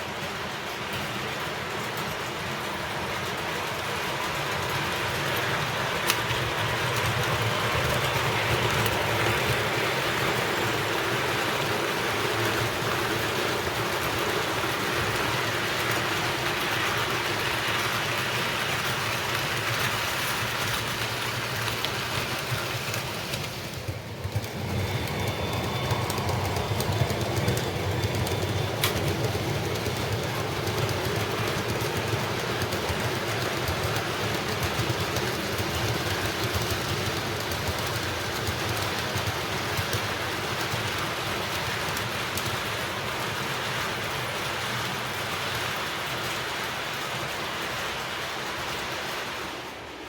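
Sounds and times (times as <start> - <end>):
model train rumble and wheel clatter: 0.0 - 50.0.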